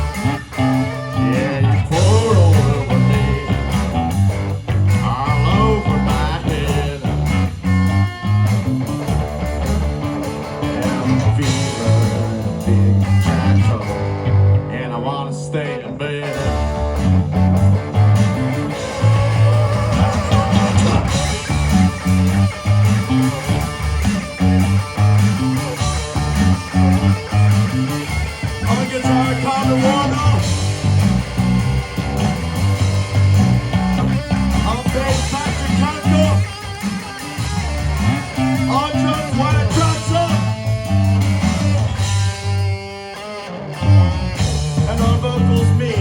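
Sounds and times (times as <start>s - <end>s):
electric guitar lead: 0.0s - 46.0s
rock band playing: 0.0s - 46.0s.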